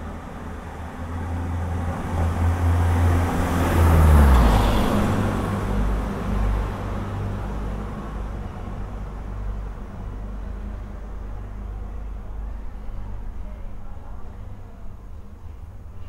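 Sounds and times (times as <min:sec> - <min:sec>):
vehicle engine rumble passing: 0:00.0 - 0:16.0.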